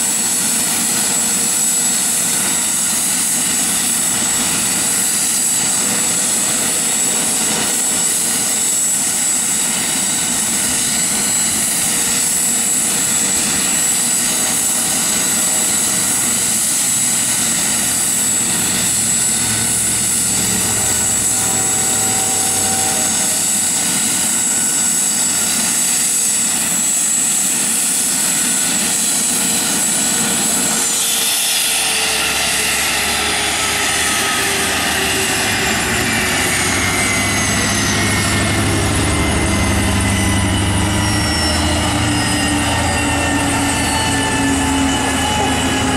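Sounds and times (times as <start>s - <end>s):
helicopter idling with turbine whine: 0.0s - 45.9s.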